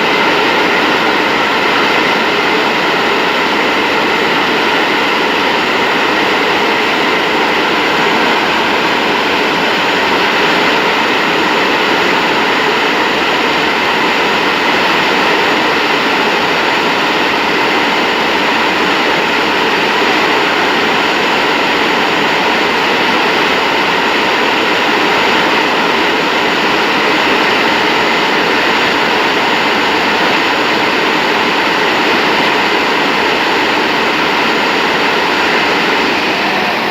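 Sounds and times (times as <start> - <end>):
jet engine starter whine: 0.0 - 36.9.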